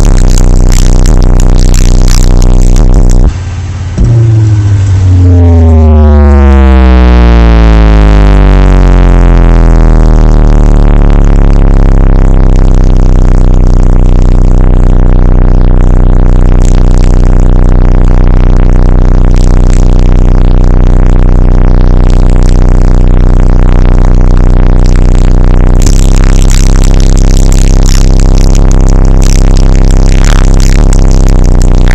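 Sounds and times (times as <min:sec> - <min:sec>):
loud subwoofer bass tone: 0:00.0 - 0:31.9.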